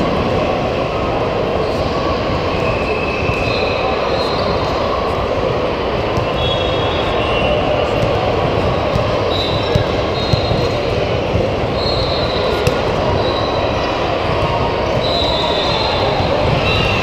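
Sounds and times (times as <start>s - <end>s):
crowd chatter in a gym: 0.0s - 17.0s.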